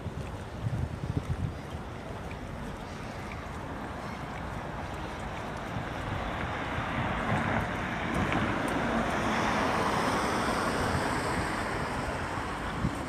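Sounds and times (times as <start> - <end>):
traffic on wet road: 0.0 - 13.0
wind buffeting microphone: 0.0 - 13.0.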